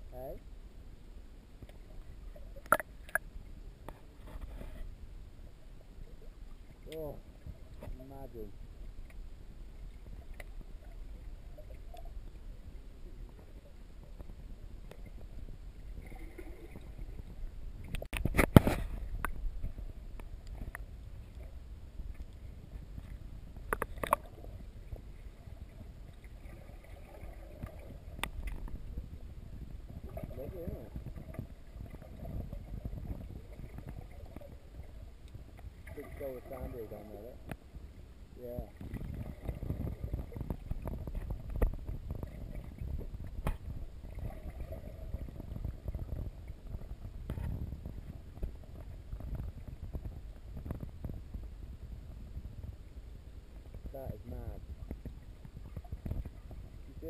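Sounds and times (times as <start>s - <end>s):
muffled underwater sloshing: 0.0s - 57.0s.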